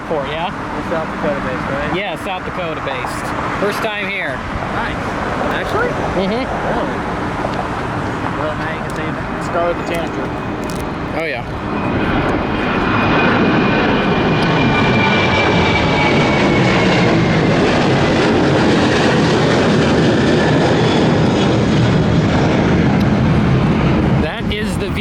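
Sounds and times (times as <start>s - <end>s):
jet airliner engines roaring: 0.0s - 25.0s.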